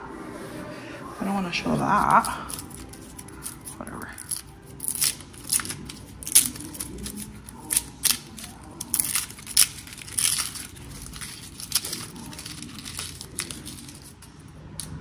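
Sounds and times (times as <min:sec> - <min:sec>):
food being peeled by hand: 0:01.7 - 0:15.0.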